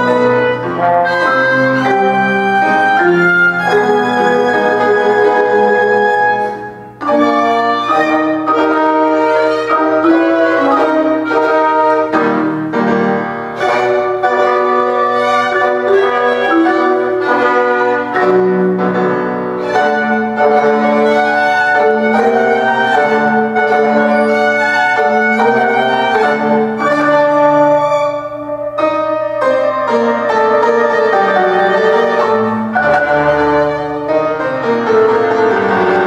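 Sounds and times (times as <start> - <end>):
clarinet: 0.0 - 36.0
trombone: 0.0 - 36.0
upright piano: 0.0 - 36.0
violin melody: 0.0 - 36.0.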